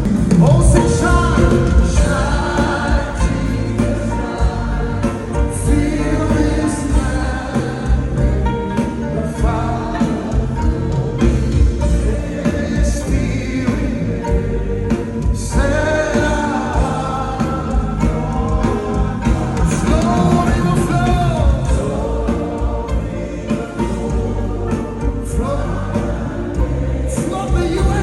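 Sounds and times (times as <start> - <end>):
band with bass and cymbals: 0.0 - 28.0
voices singing together: 0.0 - 28.0.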